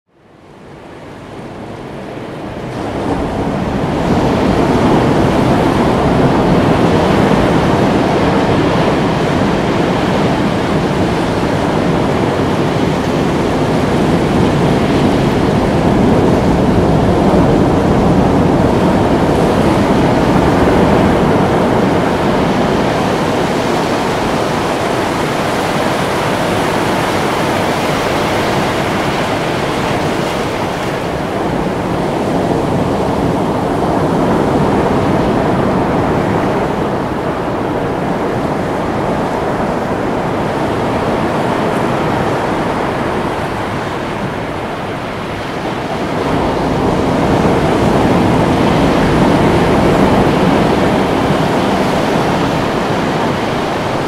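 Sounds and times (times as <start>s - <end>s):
ocean surf breaking: 0.4s - 54.0s.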